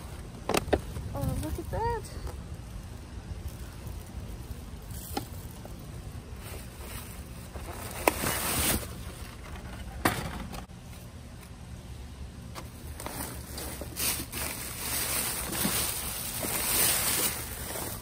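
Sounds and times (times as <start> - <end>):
plastic bags rustling and crinkling: 0.0 - 10.0, 12.6 - 18.0.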